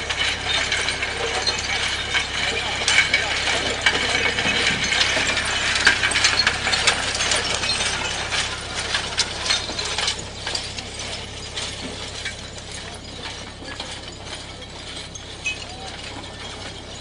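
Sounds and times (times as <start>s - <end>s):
stones clattering in spinning drum: 0.0s - 17.0s.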